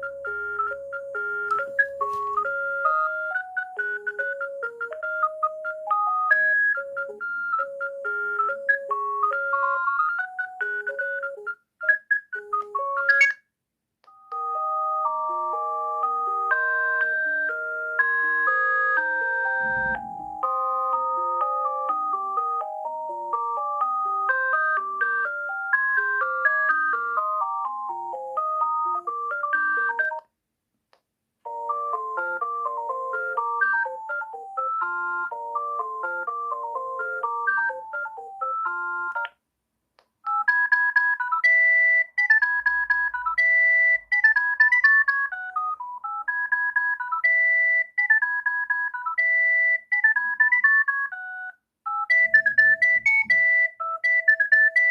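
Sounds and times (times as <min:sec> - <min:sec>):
mobile phone ringtone tunes: 0:00.0 - 0:11.6, 0:12.4 - 0:13.4, 0:14.1 - 0:30.2, 0:31.5 - 0:39.3, 0:40.3 - 0:54.9.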